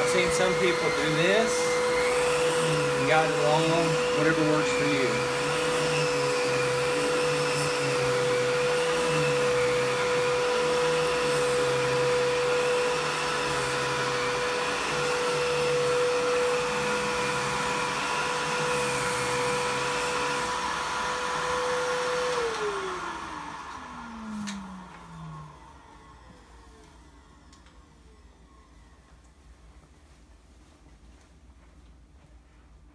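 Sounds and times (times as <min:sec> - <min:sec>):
vacuum cleaner whine: 0:00.0 - 0:30.2.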